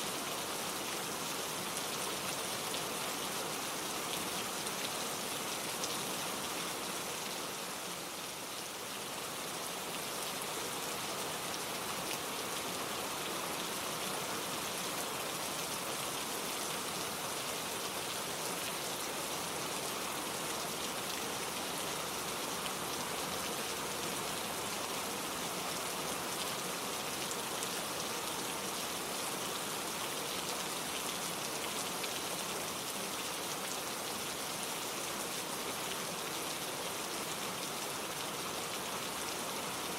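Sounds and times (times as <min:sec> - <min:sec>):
gentle rainfall: 0:00.0 - 0:39.9.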